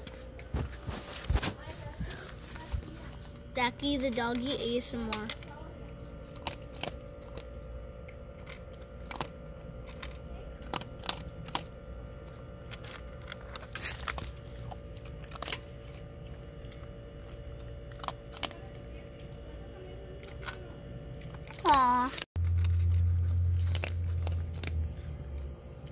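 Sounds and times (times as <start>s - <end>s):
dog chewing food: 0.0s - 25.9s
steady background hum: 0.0s - 25.9s.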